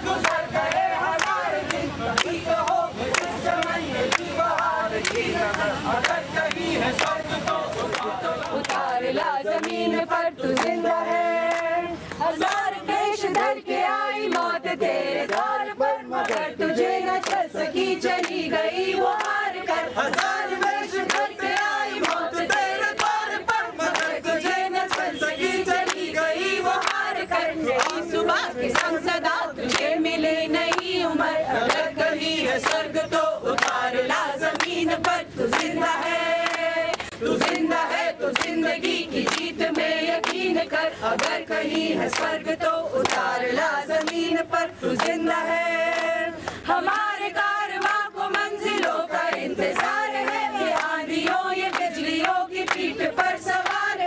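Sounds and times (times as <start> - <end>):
group singing unaccompanied: 0.0 - 54.0
hand claps: 0.1 - 10.8, 11.4 - 15.6, 16.2 - 45.3, 45.9 - 54.0.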